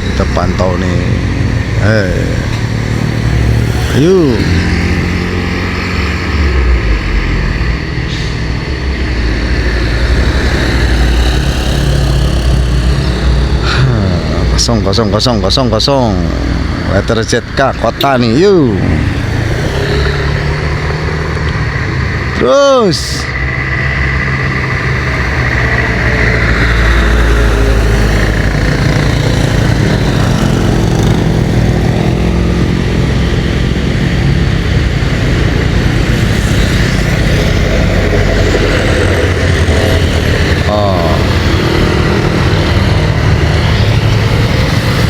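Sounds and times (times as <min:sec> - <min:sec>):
road traffic rumbling: 0:00.0 - 0:45.0.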